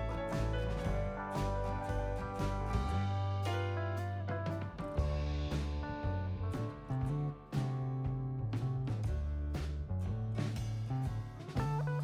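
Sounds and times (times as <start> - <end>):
bass line: 0.0 - 12.0
drum hits: 0.0 - 12.0
guitar: 0.0 - 12.0.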